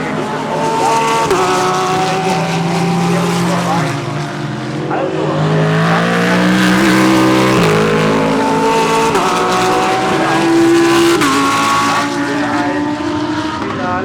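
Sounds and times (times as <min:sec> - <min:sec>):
race cars passing at full throttle: 0:00.0 - 0:14.0.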